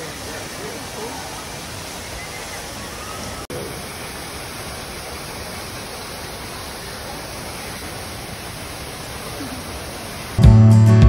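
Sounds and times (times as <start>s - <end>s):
waterfall rushing over rocks: 0.0s - 10.4s.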